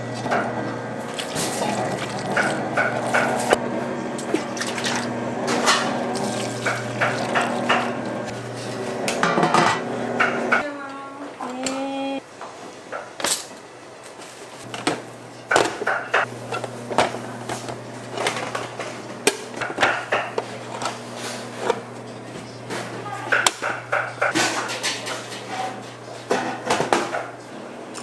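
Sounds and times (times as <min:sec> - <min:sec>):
utensils and dishes clattering: 0:00.1 - 0:03.6, 0:04.2 - 0:10.6, 0:14.2 - 0:28.0.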